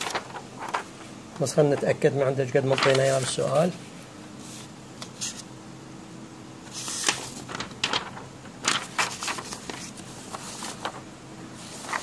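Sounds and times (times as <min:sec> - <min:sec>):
paper sheets rustling: 0:00.0 - 0:05.5, 0:06.7 - 0:12.0.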